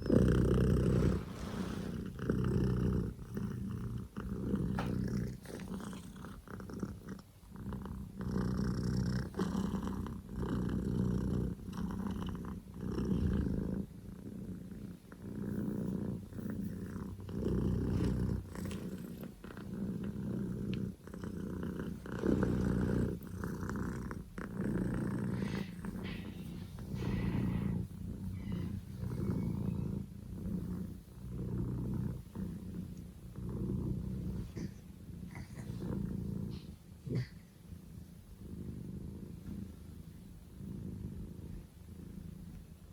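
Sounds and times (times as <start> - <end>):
kitten purring: 0.0 - 42.9.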